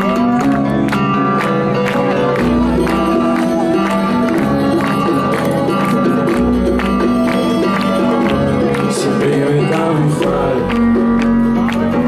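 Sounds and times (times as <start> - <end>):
double bass: 0.0 - 12.0
guitars: 0.0 - 12.0.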